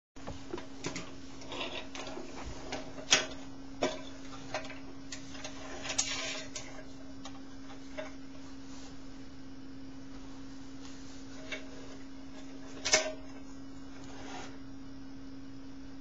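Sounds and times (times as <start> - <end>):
steady low hum: 0.2 - 16.0.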